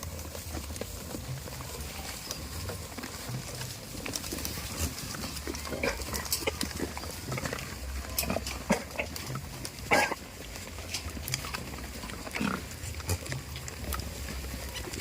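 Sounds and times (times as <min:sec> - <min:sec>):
goats clicking and rustling: 0:00.0 - 0:15.0.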